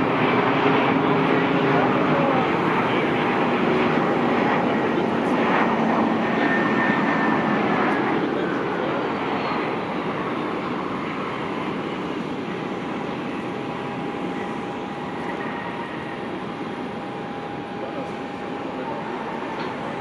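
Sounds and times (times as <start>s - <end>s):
jet airliner engines passing: 0.0s - 20.0s.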